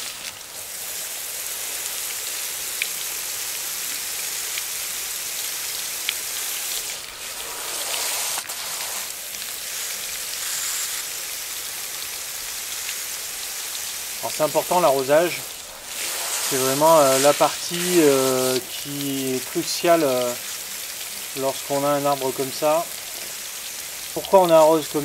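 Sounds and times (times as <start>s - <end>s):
water spraying onto gravelly soil: 0.0s - 25.0s.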